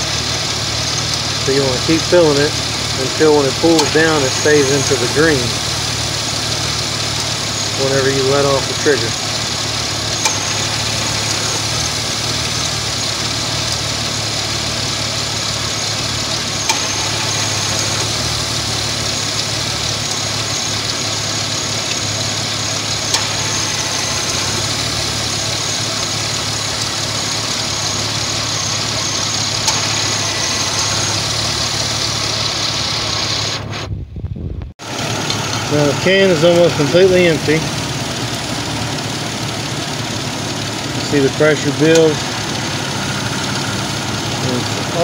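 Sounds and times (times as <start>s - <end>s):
compressor clutch clicking: 0.0s - 33.7s, 35.2s - 45.0s
truck engine idling: 0.0s - 34.0s, 34.8s - 45.0s.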